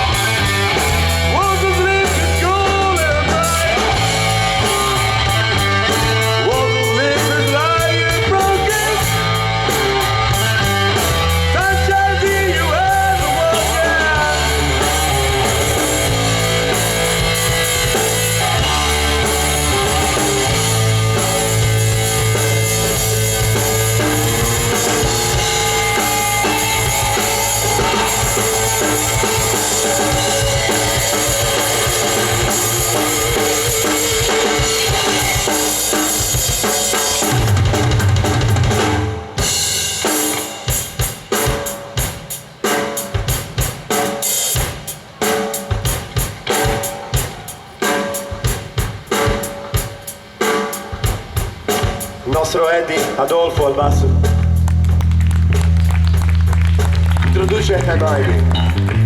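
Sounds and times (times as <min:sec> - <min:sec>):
drum kit hits and fills: 0:00.0 - 0:59.0
heavy rock band playing: 0:00.0 - 0:59.0.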